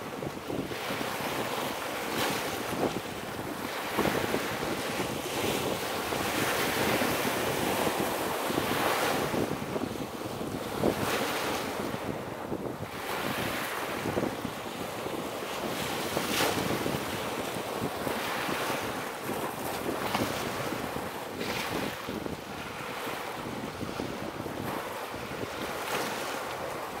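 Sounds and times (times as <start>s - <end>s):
sea waves splashing: 0.0s - 27.0s
wind on microphone: 0.0s - 27.0s.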